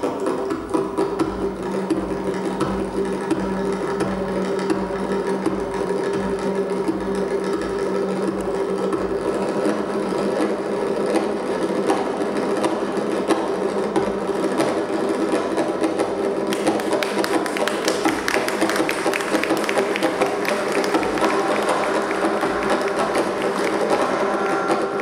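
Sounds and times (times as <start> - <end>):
goblet drum fast finger rolls: 0.1 - 25.0.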